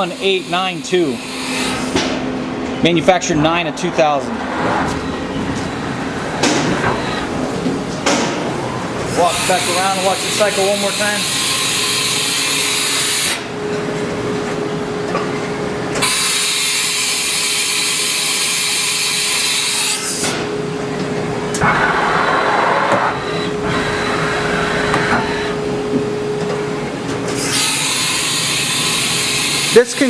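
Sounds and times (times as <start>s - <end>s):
machine whine: 0.0s - 30.0s.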